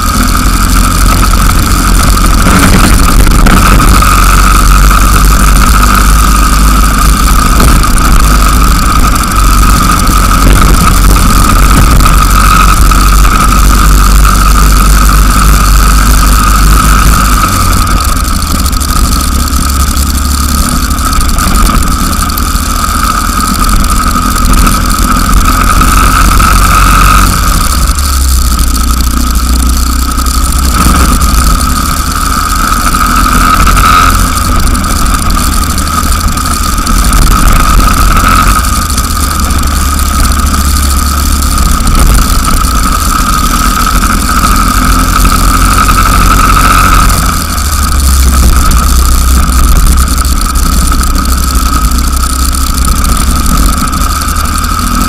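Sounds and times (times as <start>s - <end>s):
deep rumble on microphone: 0.0s - 55.0s
go-kart engine at speed: 0.0s - 55.0s.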